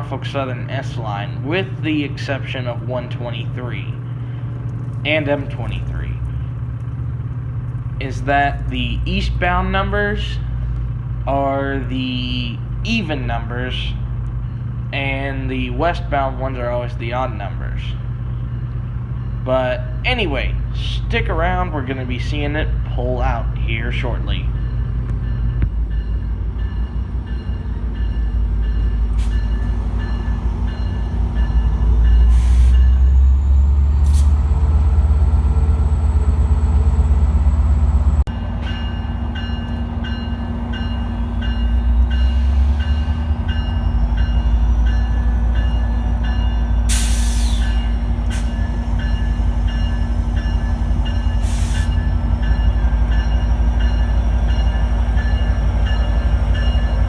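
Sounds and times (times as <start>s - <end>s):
diesel locomotive rumbling: 0.0s - 57.0s.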